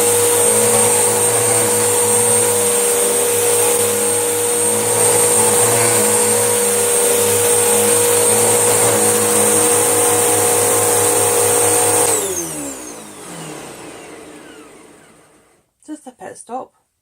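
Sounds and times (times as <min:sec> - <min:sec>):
vacuum cleaner whining: 0:00.0 - 0:15.7.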